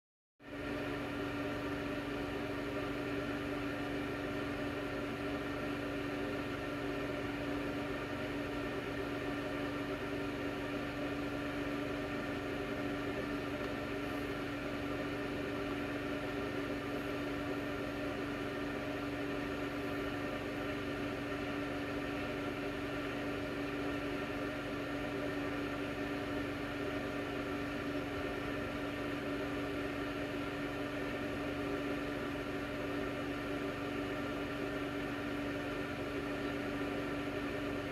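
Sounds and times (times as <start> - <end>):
steady low hum: 0.5 - 37.9.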